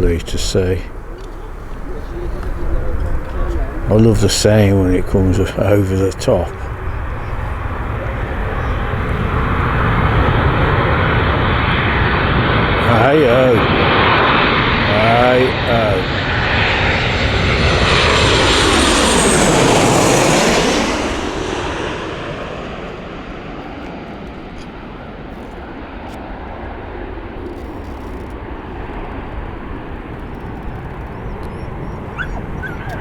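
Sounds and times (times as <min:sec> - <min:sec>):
airliner roaring overhead: 0:00.0 - 0:33.0
high jet engine whine: 0:00.0 - 0:33.0.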